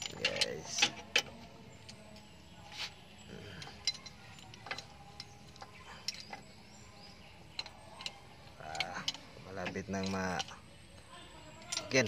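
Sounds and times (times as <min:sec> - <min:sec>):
metallic clicks of tools on metal: 0:00.0 - 0:02.3, 0:03.6 - 0:06.5, 0:07.4 - 0:12.0.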